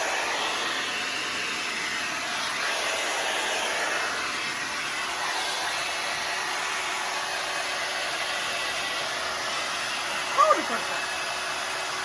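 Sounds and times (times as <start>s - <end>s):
blow dryer running: 0.0s - 12.0s.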